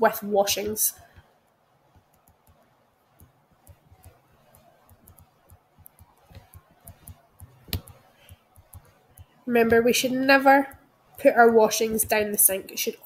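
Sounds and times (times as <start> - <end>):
stylus tapping on tablet screen: 1.1 - 12.6.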